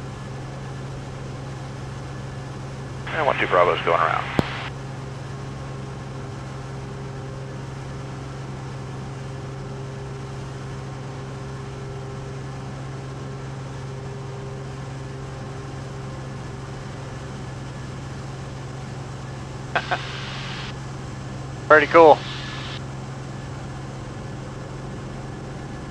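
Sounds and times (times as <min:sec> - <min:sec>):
aircraft engine and propeller droning: 0:00.0 - 0:25.9.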